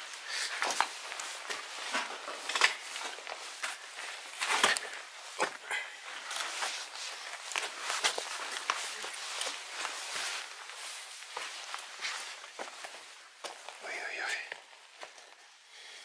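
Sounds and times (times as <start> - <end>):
footsteps scuffing and crunching: 0.5 - 15.4.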